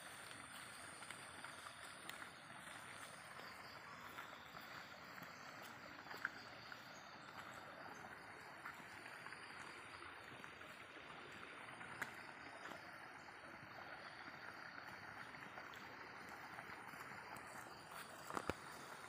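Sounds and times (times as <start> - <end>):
water rushing through sluice gate: 0.0 - 19.0.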